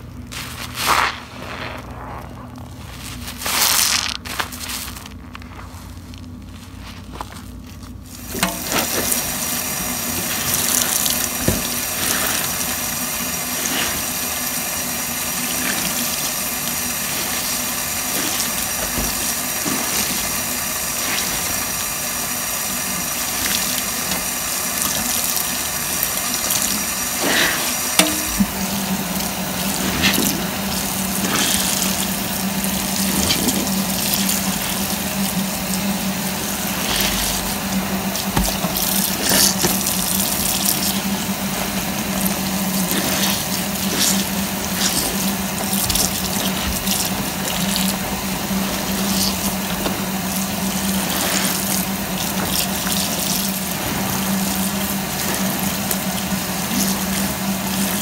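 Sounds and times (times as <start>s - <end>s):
low steady hum: 0.0s - 58.0s
wet sponge squishes: 0.0s - 58.0s
tap water running into sink: 8.3s - 58.0s.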